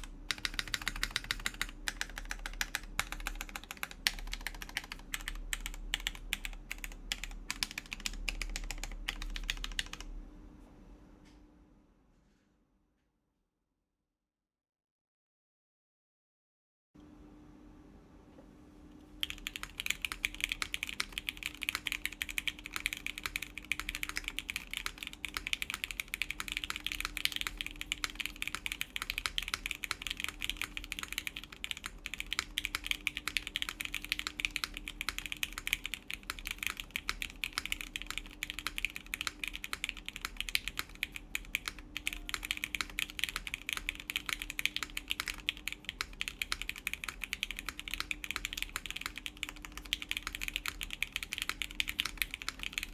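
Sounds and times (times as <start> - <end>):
mechanical keyboard typing: 0.0 - 10.1, 19.2 - 52.9.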